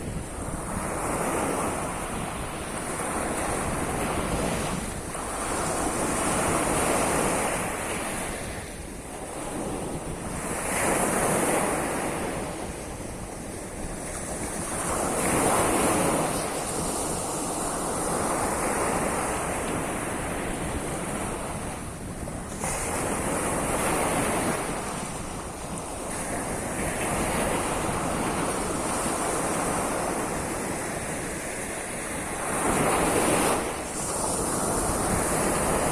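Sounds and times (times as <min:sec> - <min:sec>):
surf washing onto shore: 0:00.0 - 0:35.9.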